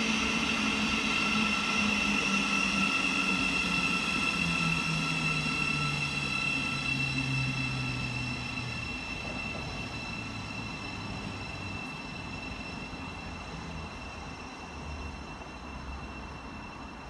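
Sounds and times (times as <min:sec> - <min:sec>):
train electrical whining: 0:00.0 - 0:17.0.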